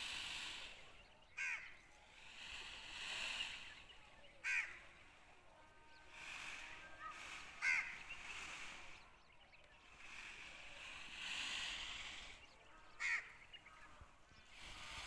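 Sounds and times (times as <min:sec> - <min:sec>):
faint background noise: 0:00.0 - 0:15.0
loud bird calls: 0:00.0 - 0:15.0.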